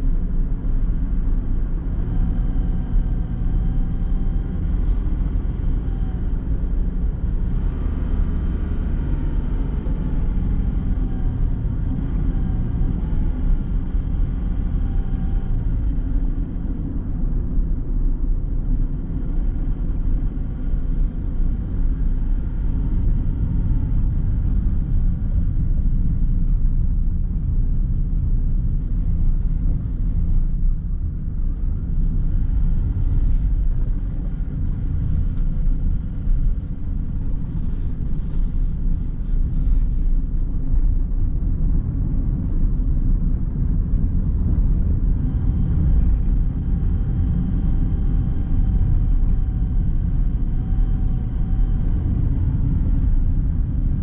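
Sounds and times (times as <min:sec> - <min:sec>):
car driving: 0:00.0 - 0:54.0
faint steady whine: 0:00.0 - 0:54.0.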